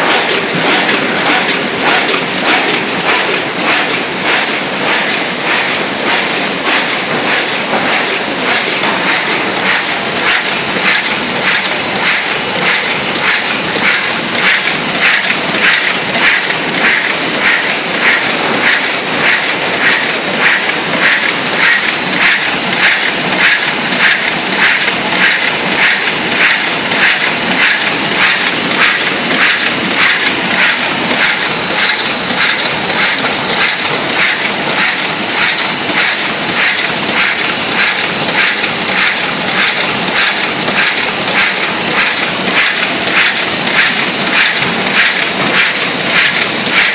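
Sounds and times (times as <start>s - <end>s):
die-cutting machine clattering: 0.0s - 46.9s.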